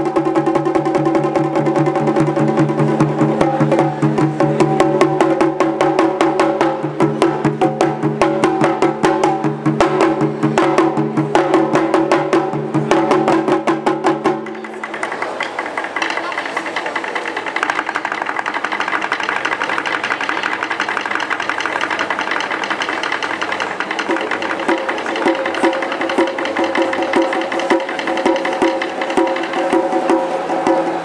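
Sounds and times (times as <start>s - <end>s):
drum strokes: 0.0s - 31.0s.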